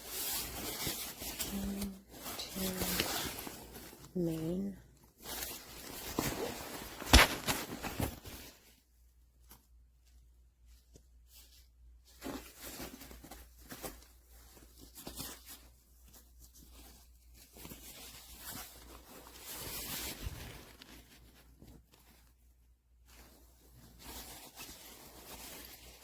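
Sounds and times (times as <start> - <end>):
nylon rustling: 0.0 - 26.0.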